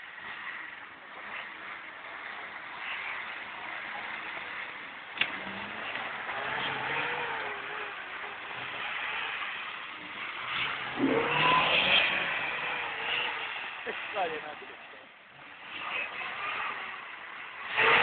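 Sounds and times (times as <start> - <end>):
car engine under load: 0.0 - 18.0.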